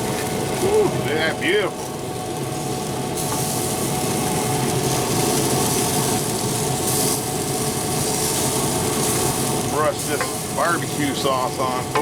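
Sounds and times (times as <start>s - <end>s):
fire and cooking hiss: 0.0s - 12.0s
grill fan hum: 0.0s - 12.0s.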